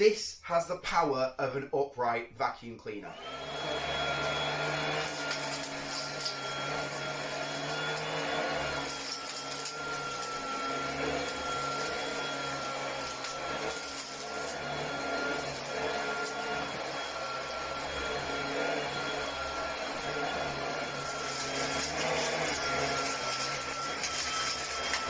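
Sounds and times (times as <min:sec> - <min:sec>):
vacuum cleaner running: 0:03.1 - 0:25.0.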